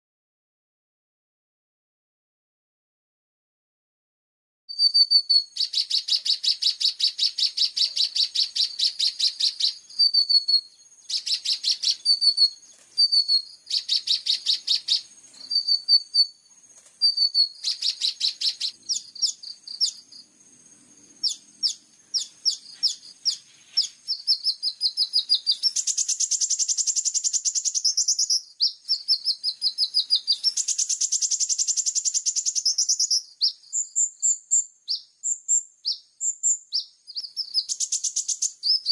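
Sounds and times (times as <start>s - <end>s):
songbird trills: 4.7s - 38.9s
bird chirps and chatter: 4.8s - 20.2s, 21.0s - 35.1s, 36.7s - 38.9s.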